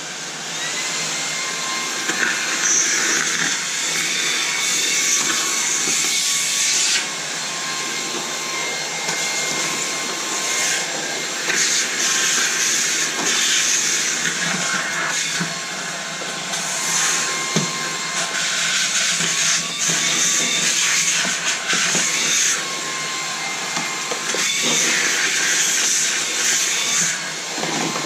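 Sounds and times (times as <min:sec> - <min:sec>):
handheld vacuum running: 0:00.0 - 0:28.0.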